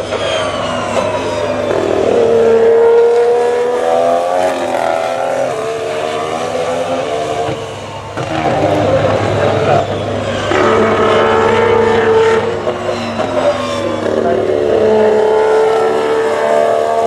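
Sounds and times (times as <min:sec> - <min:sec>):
race car engine: 0:00.0 - 0:17.0.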